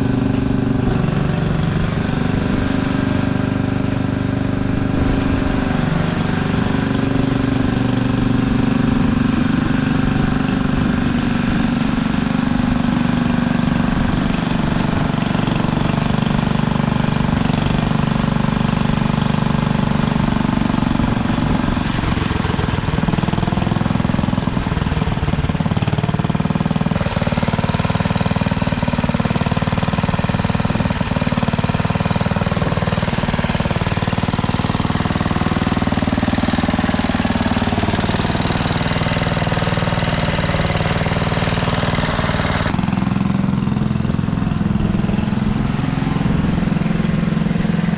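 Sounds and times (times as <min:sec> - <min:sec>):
garden tractor engine running: 0:00.0 - 0:47.9.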